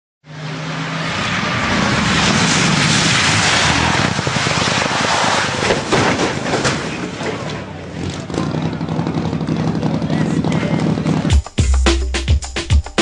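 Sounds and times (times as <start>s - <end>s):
rally car engine: 0.2s - 11.3s.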